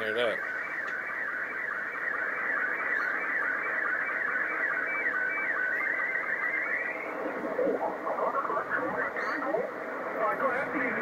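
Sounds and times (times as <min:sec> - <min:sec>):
warbling high signal tones: 0:00.0 - 0:09.4.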